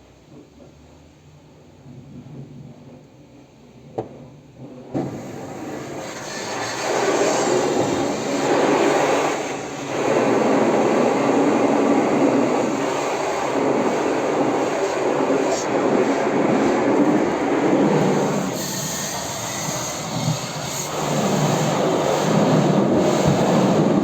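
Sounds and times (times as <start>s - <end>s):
car wash equipment rushing: 4.0s - 24.0s.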